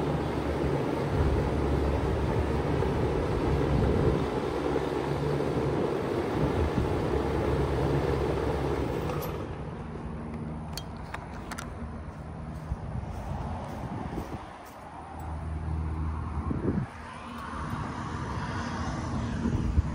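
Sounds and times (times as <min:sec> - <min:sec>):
condenser fan rushing: 0:00.0 - 0:19.9
heat pump compressor hum: 0:00.0 - 0:19.9.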